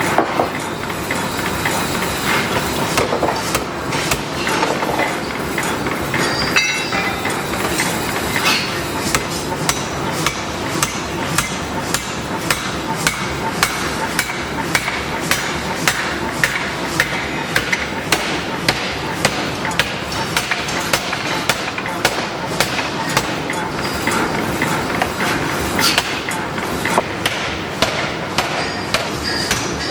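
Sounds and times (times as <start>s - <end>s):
shop noise: 0.0s - 29.9s
hammer striking metal: 3.0s - 24.8s, 25.8s - 29.9s.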